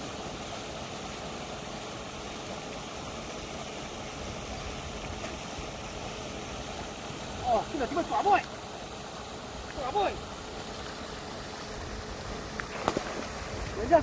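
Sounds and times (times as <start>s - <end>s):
churning water: 0.0s - 14.0s
faint low hum of aerator: 0.0s - 14.0s.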